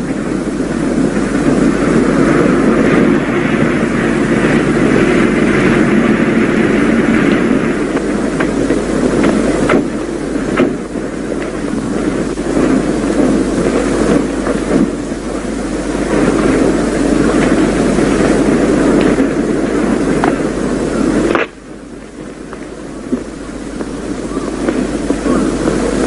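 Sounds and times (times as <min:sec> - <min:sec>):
car engines running: 0:00.0 - 0:26.0.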